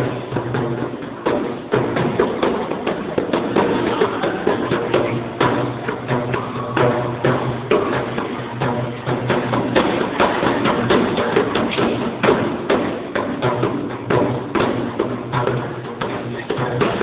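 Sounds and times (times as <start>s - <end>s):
frame drums beating: 0.0s - 17.0s.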